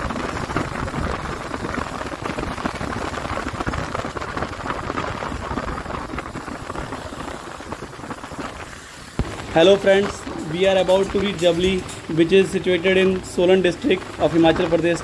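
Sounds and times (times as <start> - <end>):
tyres hissing on wet road: 0.0 - 15.0
vehicle road and wind noise: 0.0 - 15.0.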